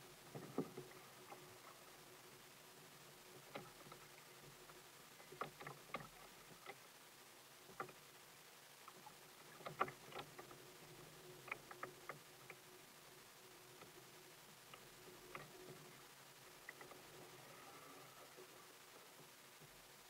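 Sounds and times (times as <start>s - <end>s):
low steady hum: 0.0s - 20.0s
small waves lapping against hull: 0.0s - 20.0s.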